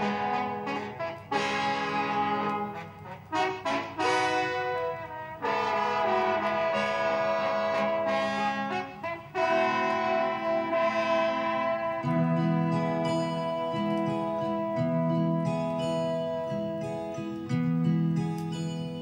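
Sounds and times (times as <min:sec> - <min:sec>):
brass instrumental from vinyl record: 0:00.0 - 0:17.4.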